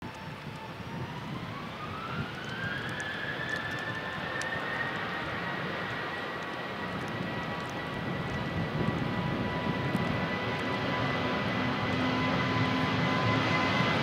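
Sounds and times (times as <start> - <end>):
jet engines spooling up: 0.1 - 14.0.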